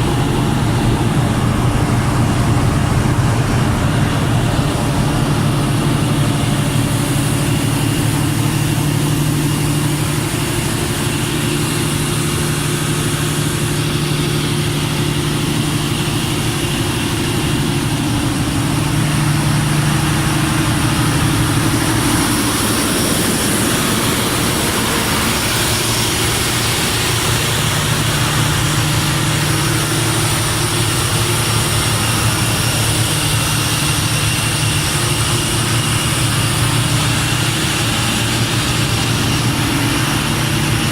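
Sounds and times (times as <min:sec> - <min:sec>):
diesel generator droning: 0:00.0 - 0:40.9.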